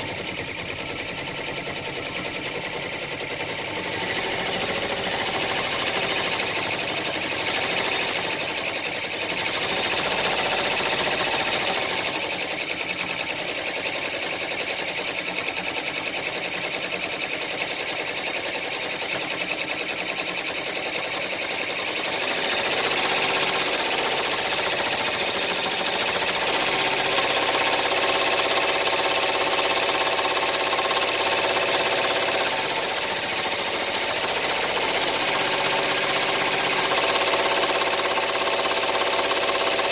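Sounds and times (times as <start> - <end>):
embroidery machine needle clatter: 0.1 - 39.9.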